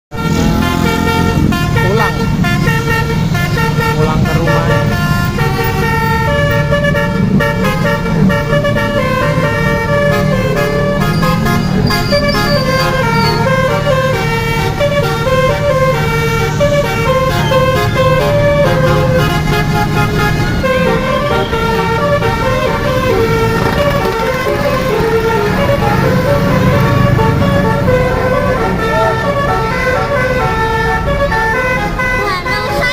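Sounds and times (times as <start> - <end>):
bus engines rumbling: 0.1 - 32.9
multi-tone bus horns playing melodies: 0.1 - 32.9
whooping horn glide: 0.1 - 32.9.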